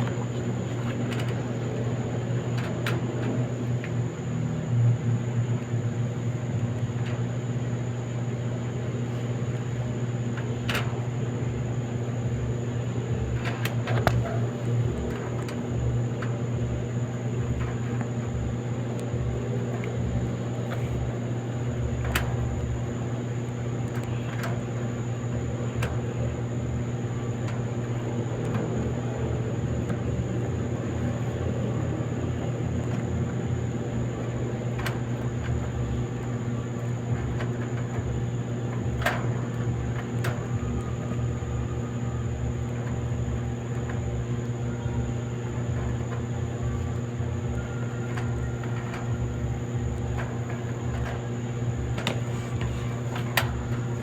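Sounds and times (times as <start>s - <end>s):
clothes dryer humming: 0.0s - 54.0s
low thumping in dryer: 0.0s - 54.0s.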